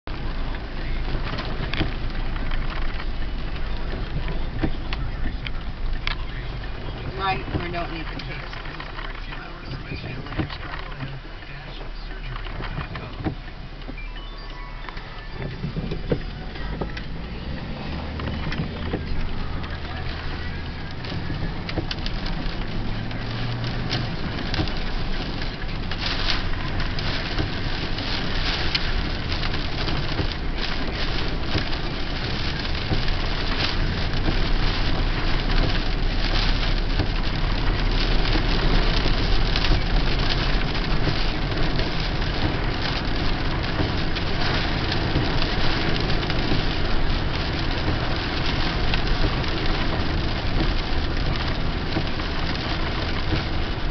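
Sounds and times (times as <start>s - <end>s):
car engine hum: 0.0s - 53.9s
rain on car windshield and roof: 0.0s - 53.9s
tyres hissing on wet road: 0.1s - 53.9s.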